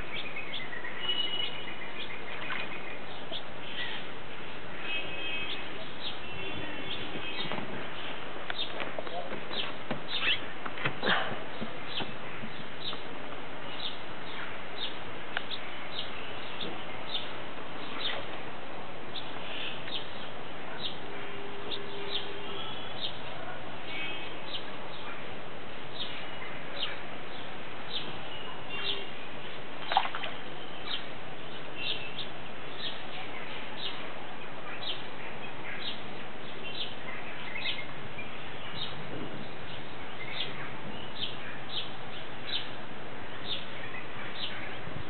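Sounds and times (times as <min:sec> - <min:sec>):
birds chirping: 0:00.0 - 0:45.0
steady background hiss: 0:00.0 - 0:45.0.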